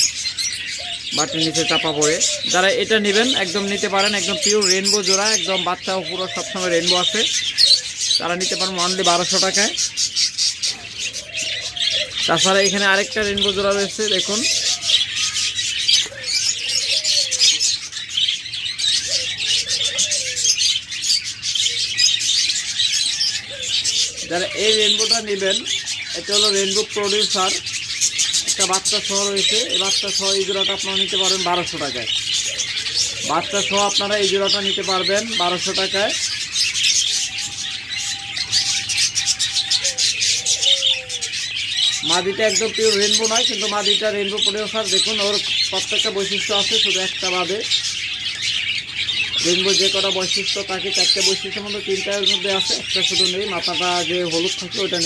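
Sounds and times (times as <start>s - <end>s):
bird falling call: 0.0s - 55.0s
budgerigars chattering: 0.0s - 55.0s
dove cooing: 0.0s - 55.0s.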